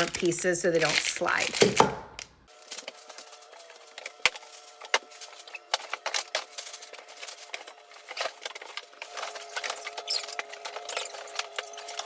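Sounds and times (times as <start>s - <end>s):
packaging rustling: 0.0s - 1.9s, 2.5s - 12.0s.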